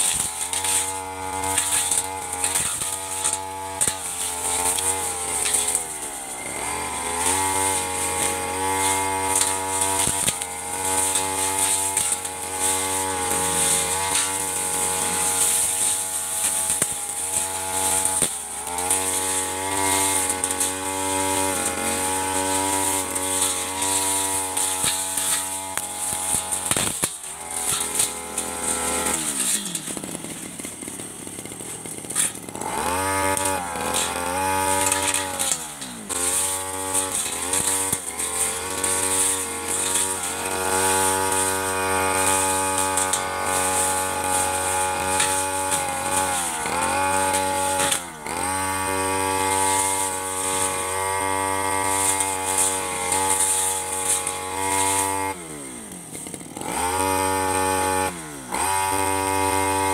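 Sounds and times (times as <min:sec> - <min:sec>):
brush cutter engine revving: 0:00.0 - 0:59.9.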